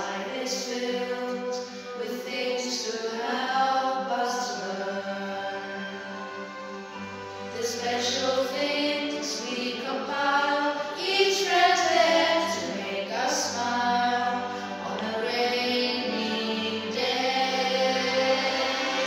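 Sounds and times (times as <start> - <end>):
low musical accompaniment: 0.0 - 19.0
voices singing long notes: 0.0 - 19.0.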